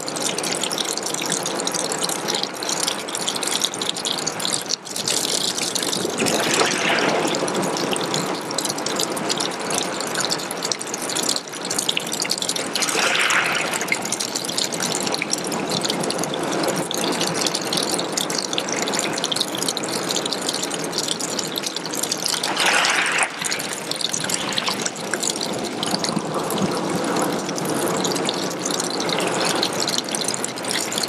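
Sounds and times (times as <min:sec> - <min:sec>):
water trickling onto pebbles: 0:00.0 - 0:31.0.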